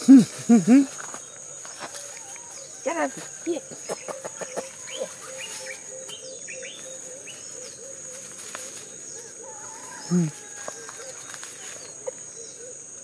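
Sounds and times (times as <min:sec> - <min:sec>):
birds chirping: 0:00.0 - 0:13.0
insects droning: 0:00.0 - 0:13.0
dry grass crackling: 0:00.8 - 0:03.6, 0:04.2 - 0:12.4.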